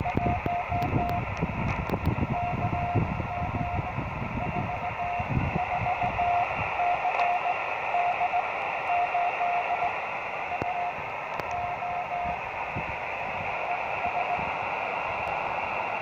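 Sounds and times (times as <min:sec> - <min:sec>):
morse code tone: 0:00.0 - 0:12.4, 0:13.6 - 0:14.6
receiver hiss: 0:00.0 - 0:16.0.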